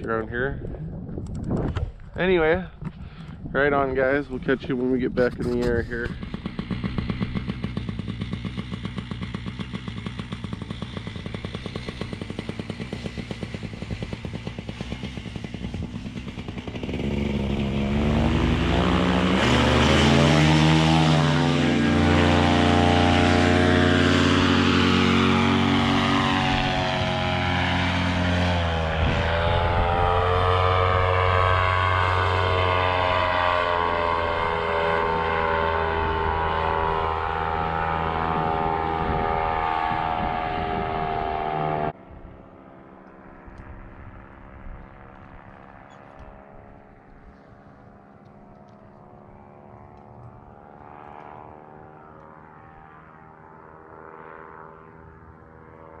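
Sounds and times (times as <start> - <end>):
propeller aircraft engine running: 0.0 - 56.0.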